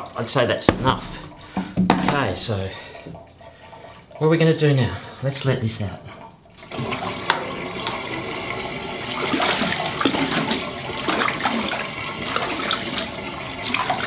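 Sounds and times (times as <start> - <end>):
water gurgling down a sink drain: 0.7 - 14.0.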